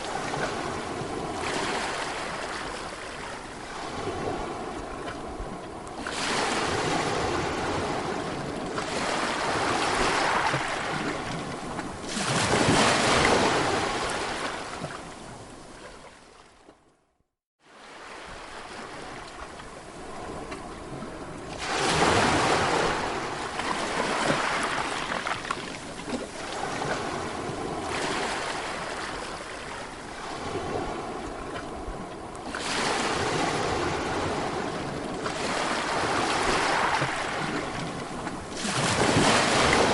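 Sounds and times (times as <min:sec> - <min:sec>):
sea waves surging: 0:00.0 - 0:16.3, 0:17.6 - 0:39.9.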